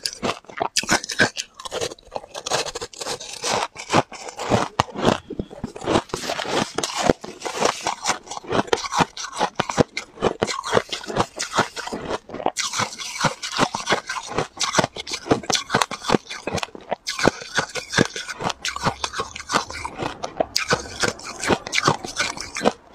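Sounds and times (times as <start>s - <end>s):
ice being crunched and chewed: 0.0s - 22.9s.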